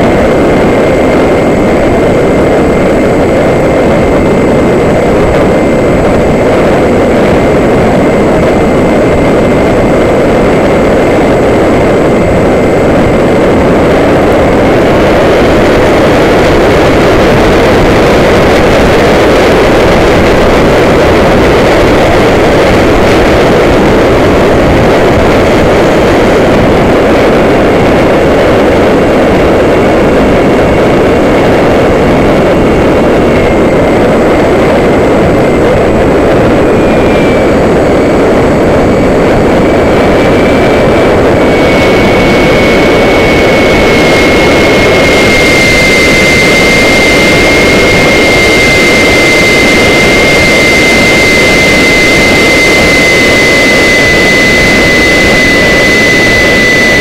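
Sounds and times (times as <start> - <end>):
thin steady whine: 0.0 - 57.0
wind rushing over microphone: 0.0 - 57.0.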